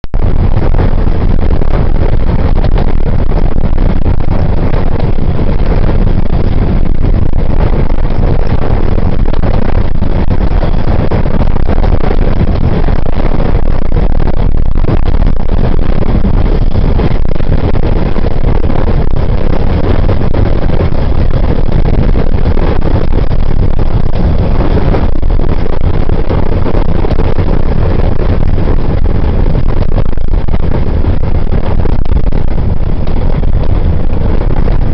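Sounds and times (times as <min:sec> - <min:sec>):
road and wind noise rumble: 0:00.0 - 0:34.9.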